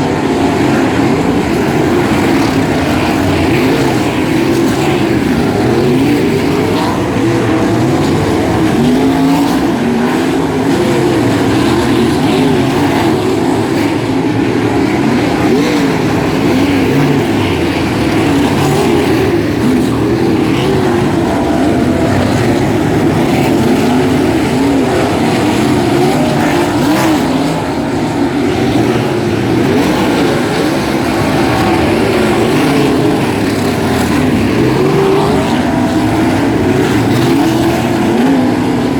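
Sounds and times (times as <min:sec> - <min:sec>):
race car engines racing: 0:00.0 - 0:38.9.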